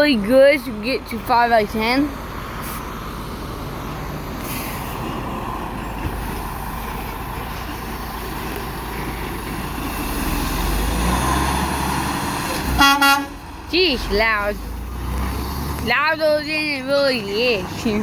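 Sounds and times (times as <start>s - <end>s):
road traffic passing: 0.0s - 18.0s
truck engine rumble: 0.0s - 18.0s.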